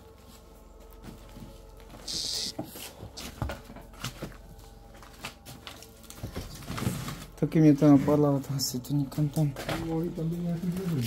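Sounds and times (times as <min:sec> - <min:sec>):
rustling among rubbish: 0:00.0 - 0:11.0.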